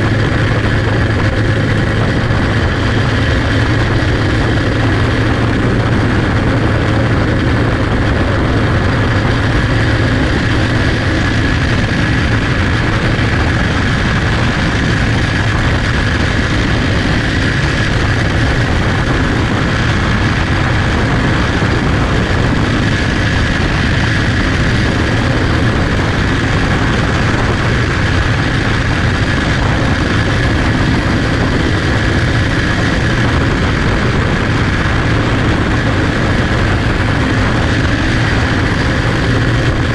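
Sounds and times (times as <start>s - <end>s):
small engine droning: 0.0s - 39.9s.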